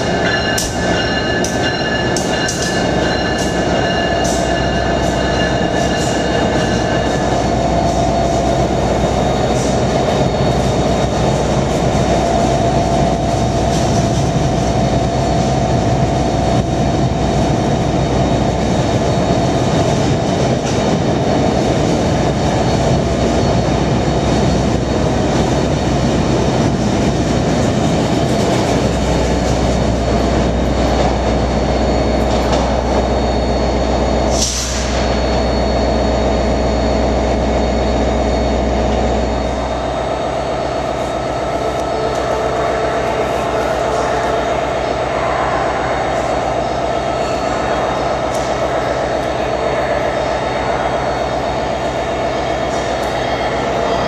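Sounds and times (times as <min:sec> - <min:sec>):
locomotive high whine: 0:00.0 - 0:54.0
train wheels rumbling on rail: 0:00.0 - 0:54.0.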